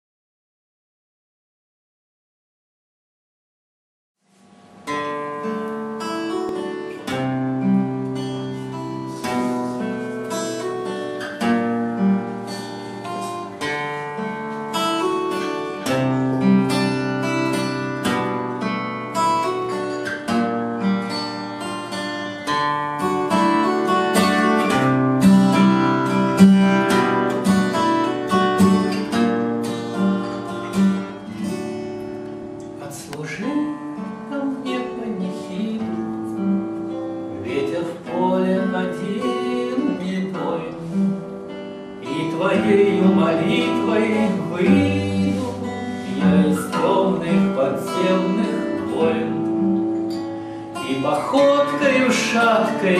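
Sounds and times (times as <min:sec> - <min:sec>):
acoustic guitar picking: 0:04.3 - 0:52.9.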